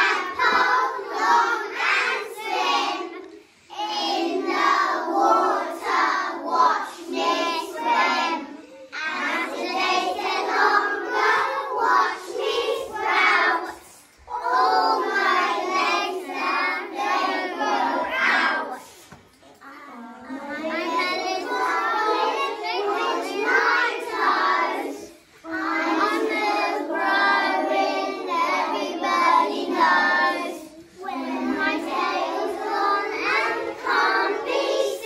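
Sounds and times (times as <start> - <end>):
children singing in unison: 0.0 - 19.2, 19.9 - 35.0.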